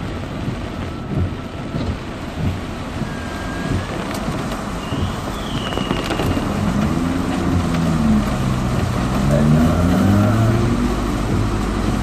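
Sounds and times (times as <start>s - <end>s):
heavy rain hiss: 0.0s - 12.0s
car engine accelerating: 1.2s - 12.0s.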